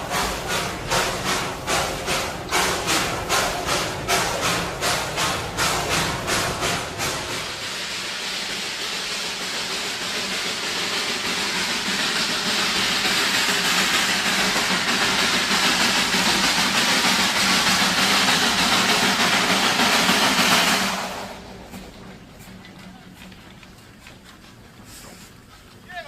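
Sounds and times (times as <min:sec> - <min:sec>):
train hissing rush: 0:00.0 - 0:26.0.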